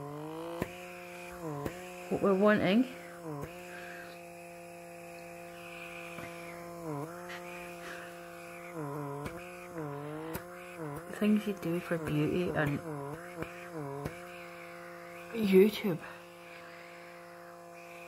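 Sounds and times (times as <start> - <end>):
pore vacuum motor hum: 0.0 - 18.0.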